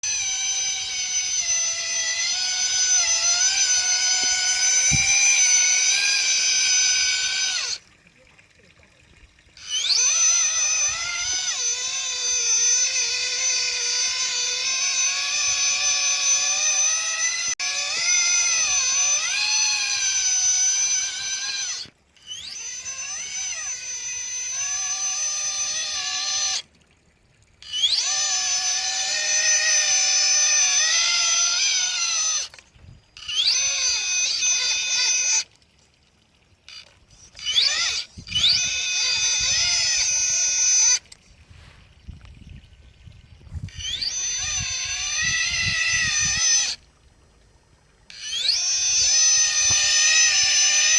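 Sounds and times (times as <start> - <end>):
toy truck electric motor whining: 0.0 - 7.8, 9.5 - 26.7, 27.6 - 35.5, 36.7 - 41.2, 43.5 - 46.8, 48.1 - 50.9.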